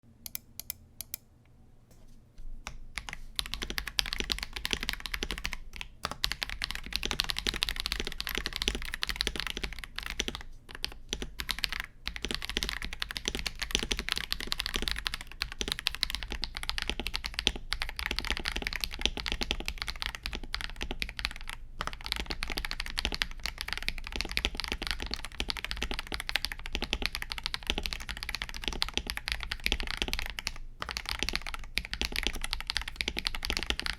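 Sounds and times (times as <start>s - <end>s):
mechanical keyboard typing: 0.3s - 1.2s, 3.0s - 33.9s.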